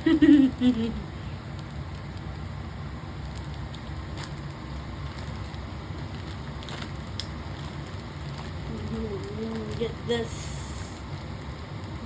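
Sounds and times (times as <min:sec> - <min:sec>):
toy packaging crackling: 0:01.6 - 0:12.0.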